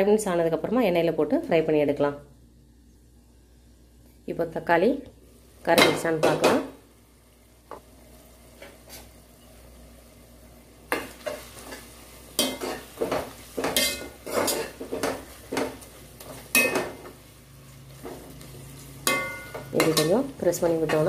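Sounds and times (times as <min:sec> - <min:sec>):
faint sizzle of frying: 0:00.0 - 0:21.0.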